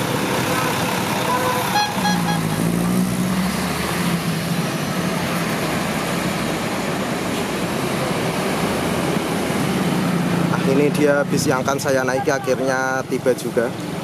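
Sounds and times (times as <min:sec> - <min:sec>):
bus and truck engines passing: 0:00.0 - 0:14.0
road noise: 0:00.0 - 0:14.0.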